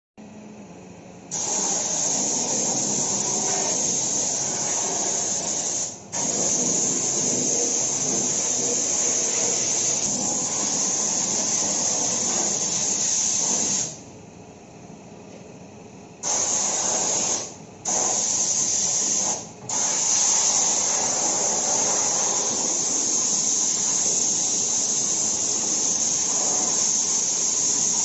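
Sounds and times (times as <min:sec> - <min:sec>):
spray gun hissing: 0:01.3 - 0:14.0, 0:16.2 - 0:28.0.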